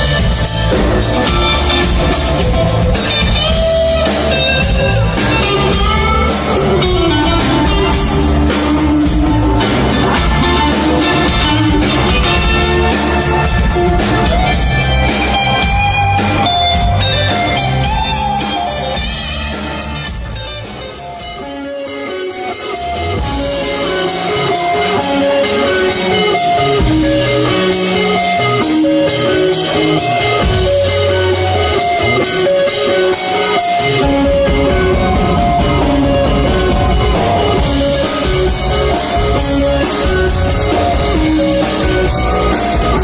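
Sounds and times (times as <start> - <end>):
instrumental band music: 0.0 - 43.0.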